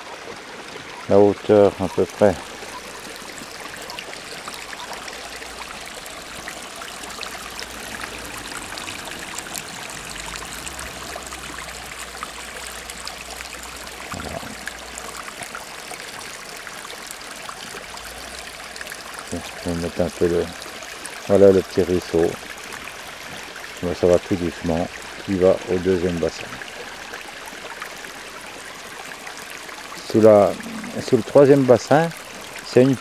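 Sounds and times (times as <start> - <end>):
stream water trickling: 0.0 - 33.0.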